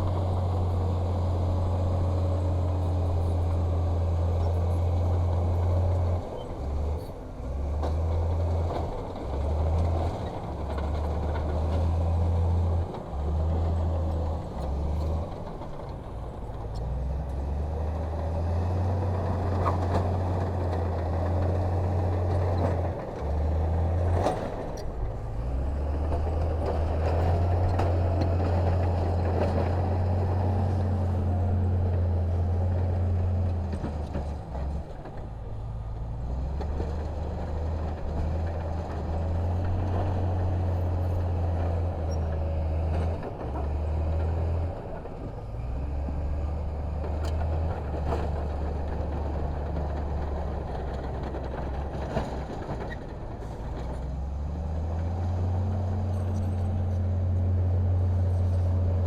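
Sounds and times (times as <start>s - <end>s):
heavy diesel machinery engine drone: 0.0s - 59.0s.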